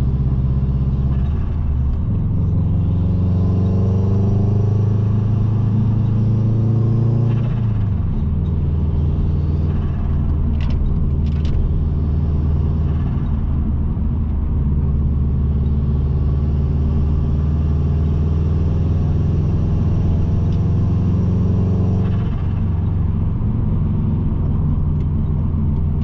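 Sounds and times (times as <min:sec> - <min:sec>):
car engine running steadily: 0:00.0 - 0:26.0.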